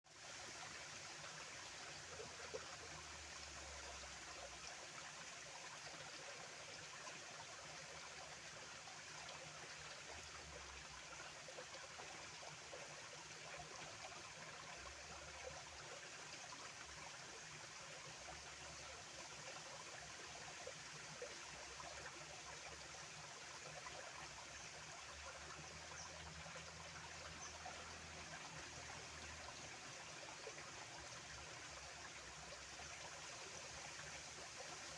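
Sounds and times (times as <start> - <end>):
stream water trickling: 0.1 - 34.9.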